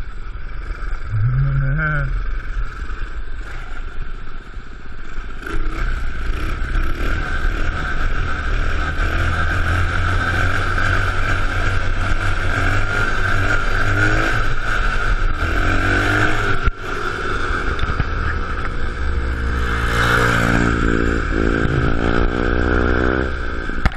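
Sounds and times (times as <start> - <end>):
off-road vehicle engine revving: 0.6 - 2.9, 5.4 - 23.9.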